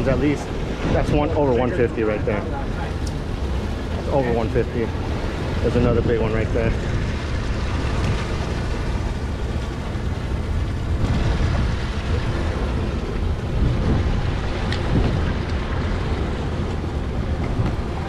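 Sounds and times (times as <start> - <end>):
boat engine rumble: 0.0 - 18.0
sea water noise: 0.0 - 18.0
wind buffeting microphone: 0.0 - 18.0.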